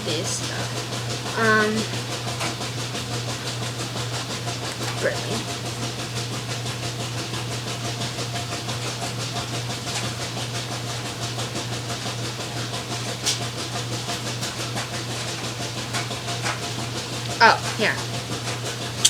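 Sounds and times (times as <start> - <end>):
laundry machine running: 0.0 - 19.0.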